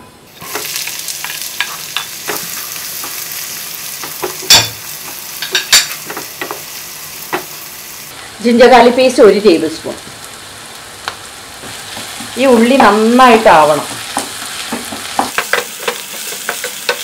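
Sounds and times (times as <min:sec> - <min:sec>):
onions sizzling in hot oil: 0:00.3 - 0:17.0.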